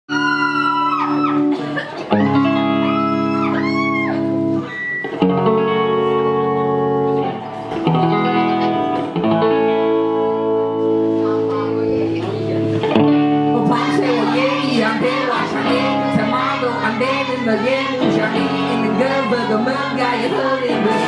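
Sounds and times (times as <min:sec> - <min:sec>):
guitar chords with sliding notes: 0:00.1 - 0:21.0
live band playing: 0:00.2 - 0:21.0.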